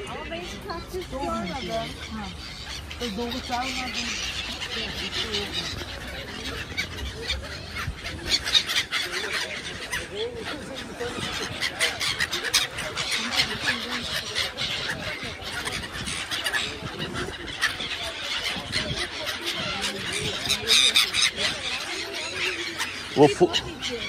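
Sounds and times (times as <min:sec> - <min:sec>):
gulls calling: 0:00.0 - 0:24.0.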